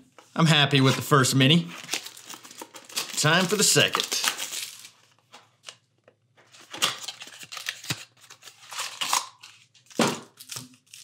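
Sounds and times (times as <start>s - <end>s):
packaging crinkling and tearing: 0.8s - 5.8s, 6.4s - 11.0s.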